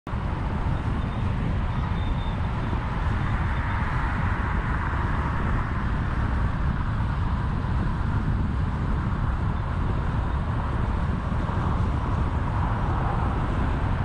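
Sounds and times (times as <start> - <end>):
tyre road noise: 0.1 - 14.0.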